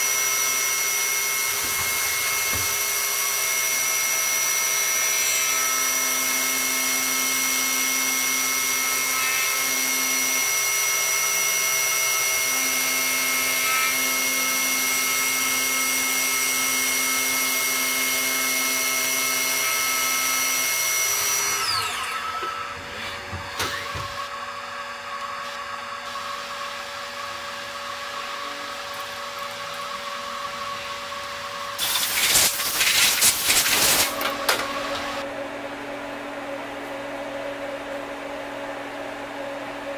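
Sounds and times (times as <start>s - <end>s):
milling machine whine: 0.0s - 35.6s.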